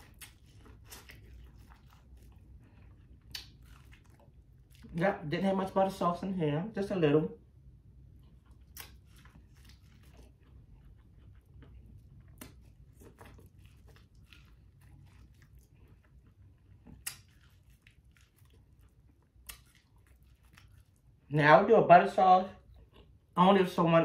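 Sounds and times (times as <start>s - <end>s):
chewing corn on the cob: 0.0s - 5.3s, 7.8s - 21.3s, 22.6s - 23.4s.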